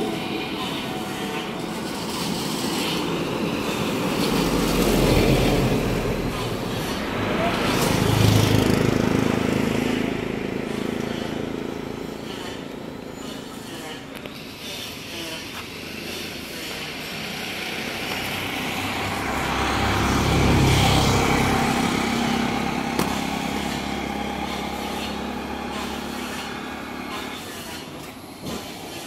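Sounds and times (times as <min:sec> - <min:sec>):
vehicle passing by: 0:00.0 - 0:14.0, 0:15.4 - 0:27.5.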